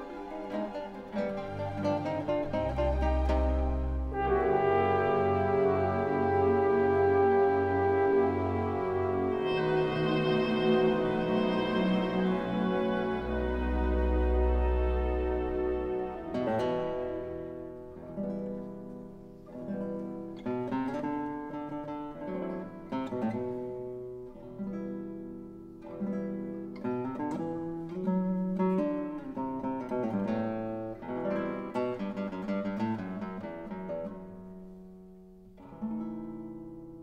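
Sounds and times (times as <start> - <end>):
acoustic guitar music: 0.0 - 37.0.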